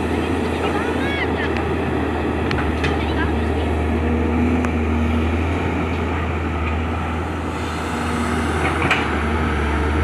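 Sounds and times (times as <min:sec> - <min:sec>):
diesel engine droning: 0:00.0 - 0:10.0.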